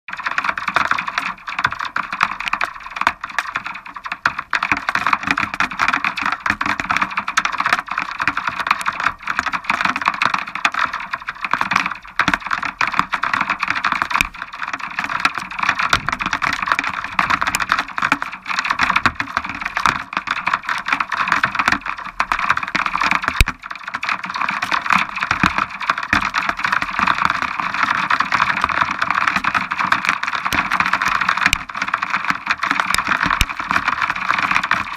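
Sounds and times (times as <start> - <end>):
rain on a hard surface: 0.1 - 34.9.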